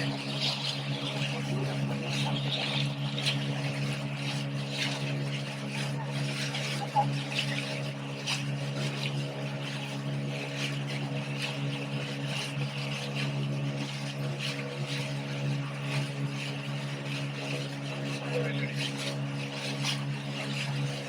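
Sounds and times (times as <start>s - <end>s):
speedboat engine running: 0.0s - 21.0s
water splashing against hull: 0.0s - 21.0s.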